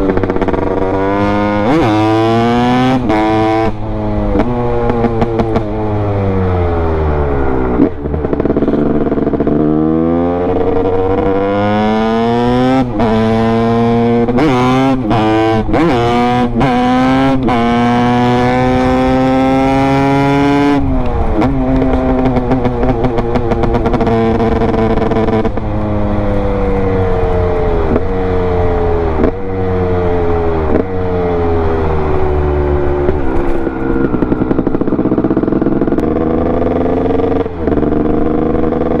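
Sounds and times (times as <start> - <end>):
two-stroke engine accelerating: 0.0 - 39.0.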